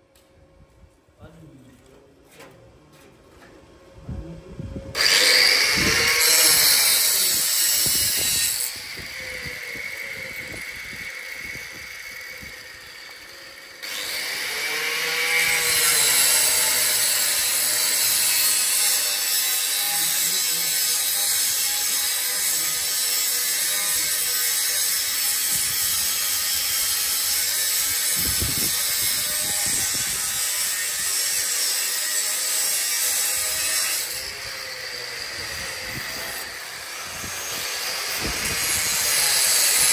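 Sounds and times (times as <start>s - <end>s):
power tool grating: 4.9s - 39.9s.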